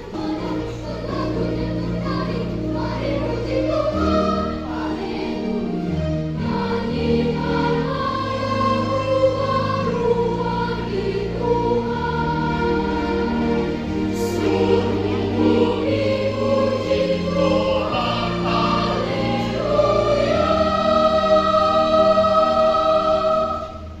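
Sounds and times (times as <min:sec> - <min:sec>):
children's choir singing a hymn: 0:00.0 - 0:24.0
low instrumental accompaniment: 0:00.0 - 0:24.0.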